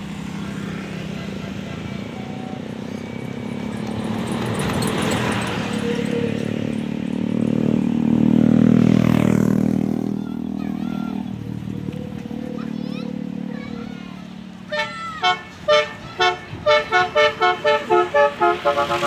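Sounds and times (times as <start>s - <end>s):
bus driving past: 0.0s - 19.0s.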